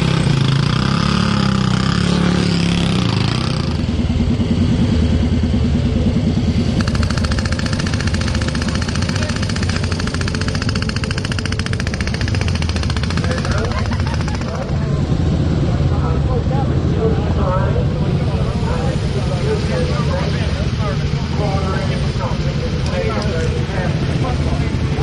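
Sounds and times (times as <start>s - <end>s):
fast even engine beat: 0.0s - 25.0s
motorcycle engines running: 0.0s - 25.0s.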